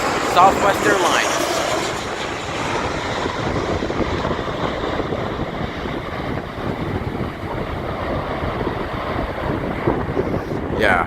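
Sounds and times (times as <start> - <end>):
jet airliner engines roaring: 0.0 - 11.0
wind buffeting microphone: 0.0 - 11.0.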